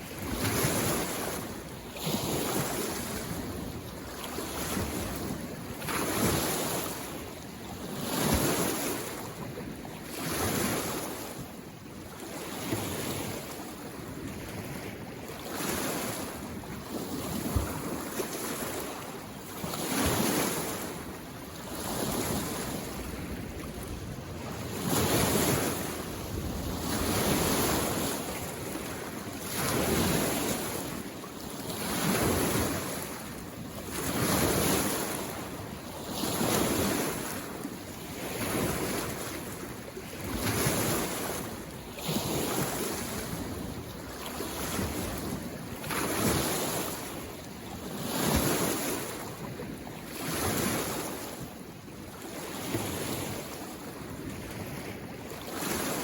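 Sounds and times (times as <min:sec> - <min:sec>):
lake waves washing on shore: 0:00.0 - 0:56.0.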